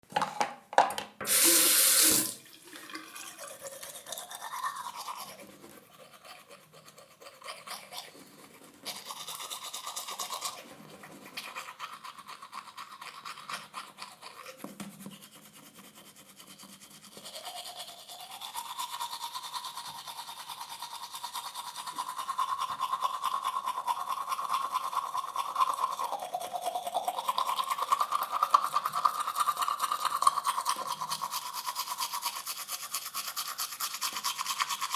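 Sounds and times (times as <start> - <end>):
toothbrush scrubbing teeth: 1.3 - 34.9.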